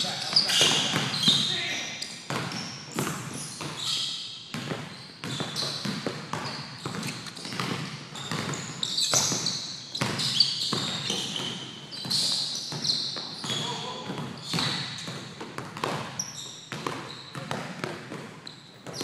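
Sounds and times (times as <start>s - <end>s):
basketball bouncing on gym floor: 0.0s - 19.0s
sneaker squeaks: 0.0s - 19.0s.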